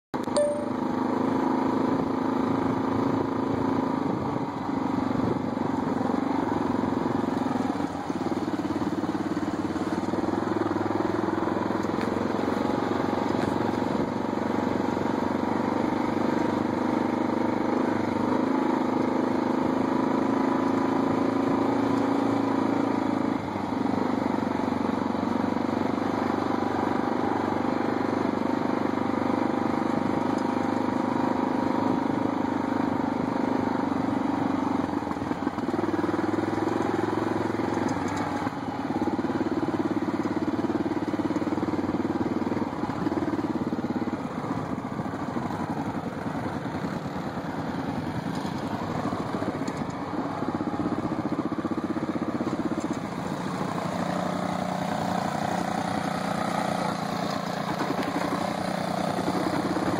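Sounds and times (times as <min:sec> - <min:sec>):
quad bike engine running: 0:00.2 - 0:59.9.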